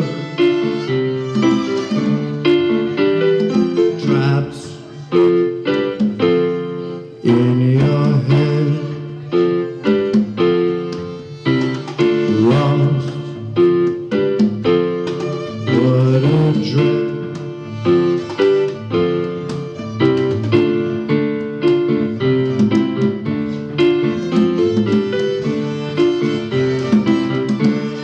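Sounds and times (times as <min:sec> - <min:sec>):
keyboard chords: 0:00.0 - 0:28.0.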